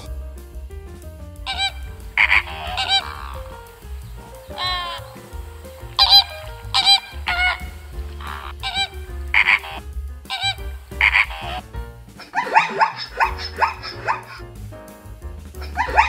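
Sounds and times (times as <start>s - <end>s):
background music: 0.0s - 16.0s
flamingos honking: 1.5s - 14.4s
zebra barking calls: 1.5s - 14.4s.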